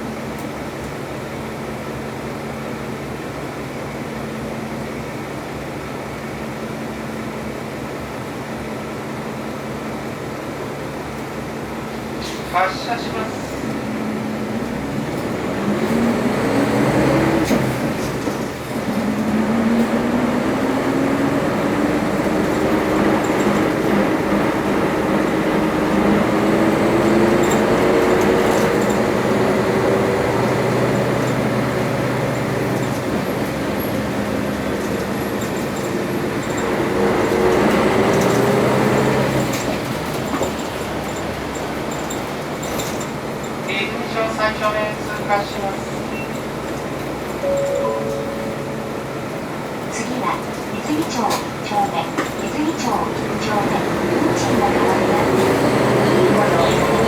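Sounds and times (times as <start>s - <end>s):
bus engine accelerating: 0.0s - 57.0s.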